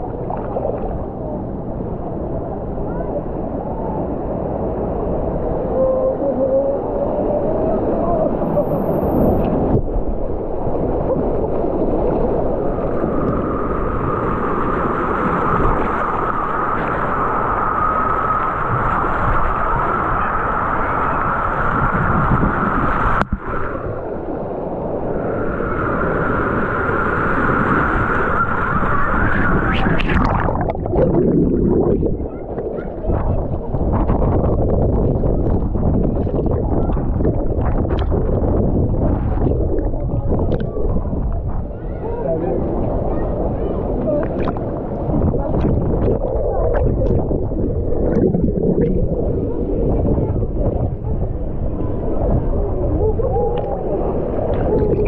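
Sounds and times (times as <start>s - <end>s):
rushing churning water: 0.0s - 55.0s
wind buffeting microphone: 0.0s - 55.0s.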